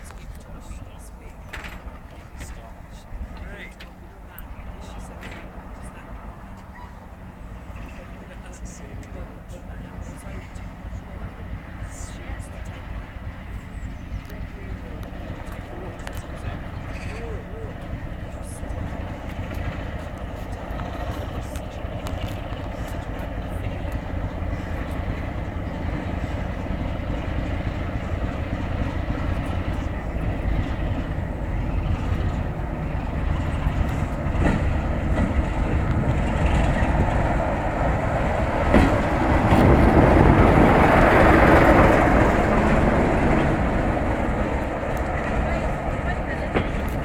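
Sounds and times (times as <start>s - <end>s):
diesel locomotive engine running: 0.0s - 47.0s.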